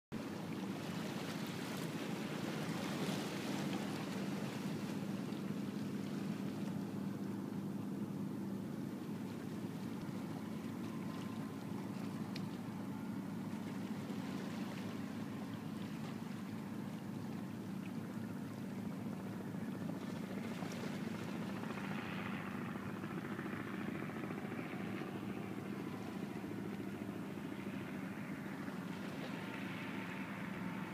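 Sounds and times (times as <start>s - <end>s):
low sustained drone chord: 4.4s - 17.4s, 18.1s - 30.9s.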